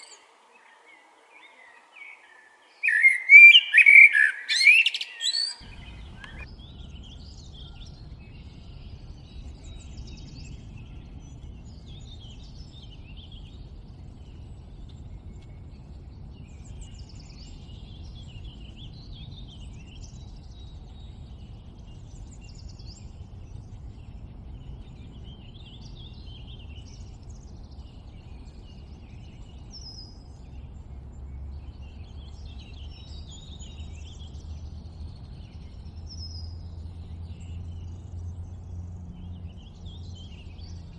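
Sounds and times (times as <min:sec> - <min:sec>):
birds chirping: 0:00.0 - 0:40.9
low background rumble: 0:05.6 - 0:40.9.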